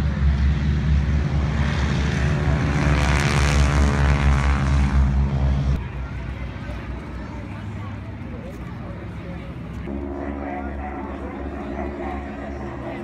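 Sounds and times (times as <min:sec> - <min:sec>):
propeller airplane flying past: 0:00.0 - 0:13.0.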